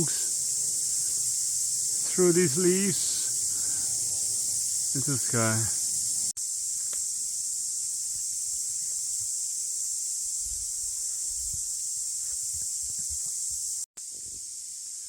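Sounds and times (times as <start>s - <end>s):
cicadas trilling: 0.0s - 15.0s.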